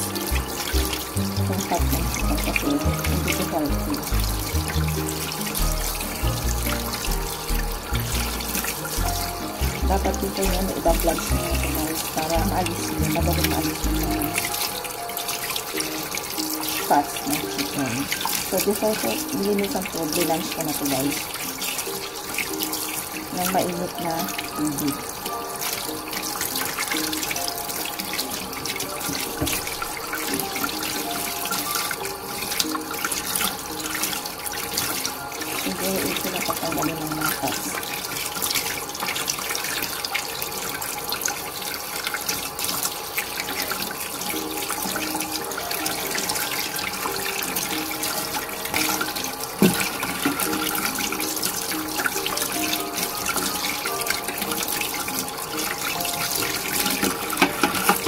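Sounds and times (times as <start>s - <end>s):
background music: 0.0s - 58.0s
tap water running into sink: 0.0s - 58.0s.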